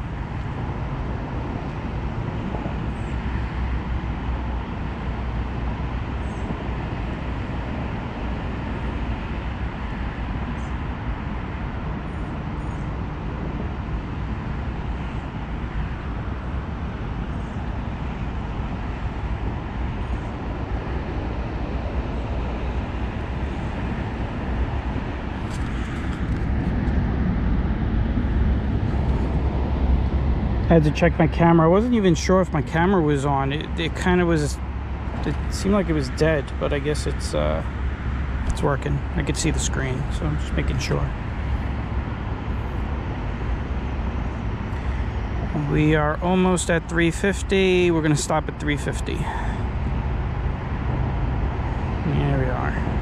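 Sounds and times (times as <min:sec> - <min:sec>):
road traffic rushing: 0:00.0 - 0:53.0.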